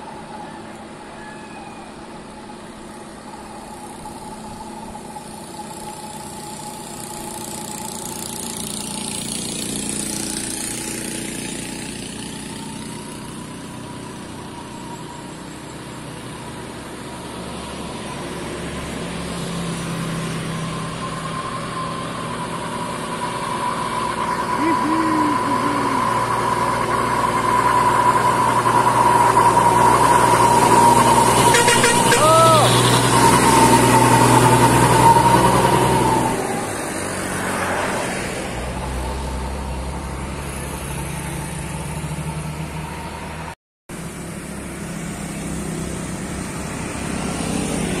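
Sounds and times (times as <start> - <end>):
road traffic passing: 0.0 - 48.0
truck diesel engine approaching: 0.0 - 48.0
vehicle passing close: 1.8 - 48.0.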